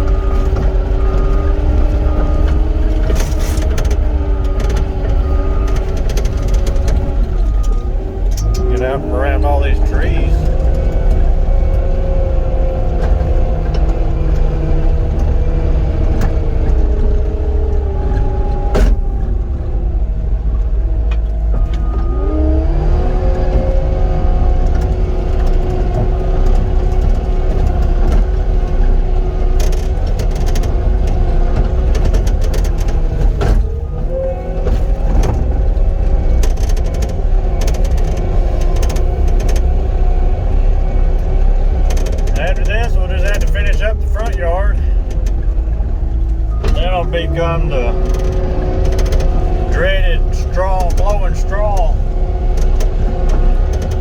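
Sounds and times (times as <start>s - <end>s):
diesel engine running at high speed: 0.0s - 54.0s.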